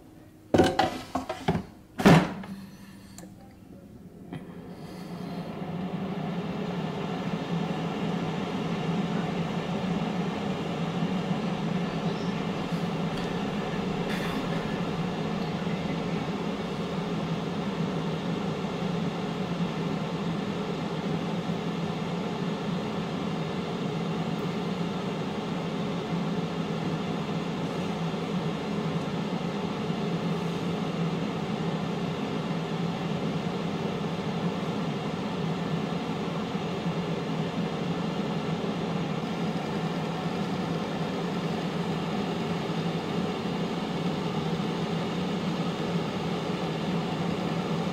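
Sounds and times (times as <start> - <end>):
air fryer fan humming: 0.0 - 47.9.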